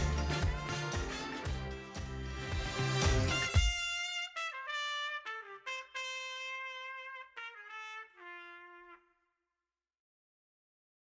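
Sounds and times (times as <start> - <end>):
brass instrument held notes: 0.0 - 9.2.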